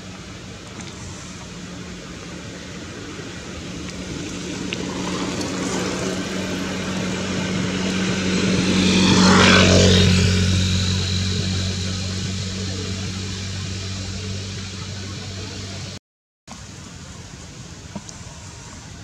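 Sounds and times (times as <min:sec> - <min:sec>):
passing engine drone: 0:00.0 - 0:16.0.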